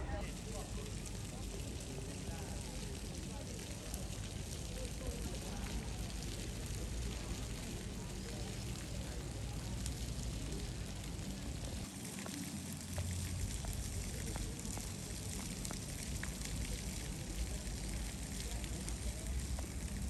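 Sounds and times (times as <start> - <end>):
fountain water hissing: 0.0 - 20.0
water splashing on paving: 0.0 - 20.0.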